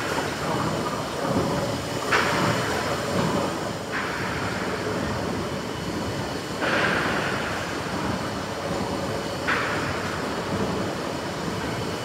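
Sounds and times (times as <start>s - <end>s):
steam pumping engine running: 0.0s - 12.0s.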